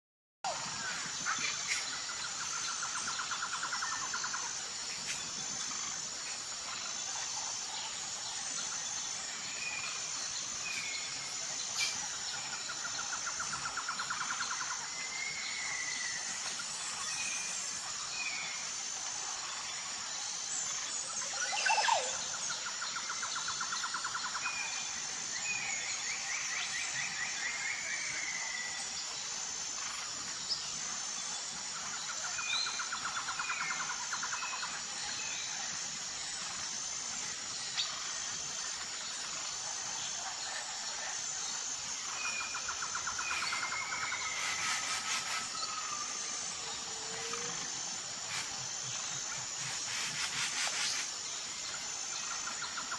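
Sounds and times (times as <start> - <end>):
steady high hiss: 0.5 - 52.9.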